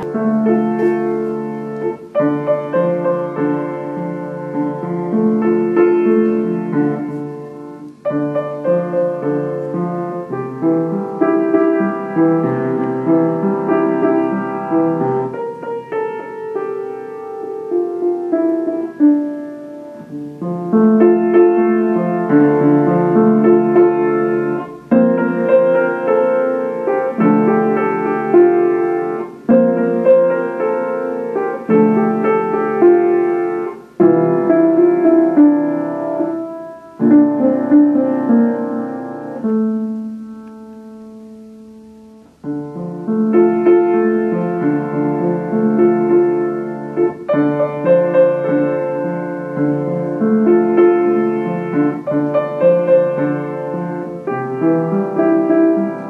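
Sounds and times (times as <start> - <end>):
solo upright piano: 0.0 - 56.0.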